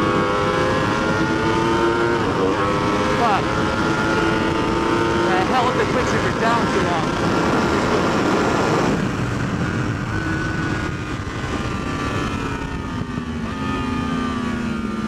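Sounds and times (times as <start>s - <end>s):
motorcycle engine decelerating: 0.0s - 15.0s
wind rush on helmet: 0.0s - 15.0s.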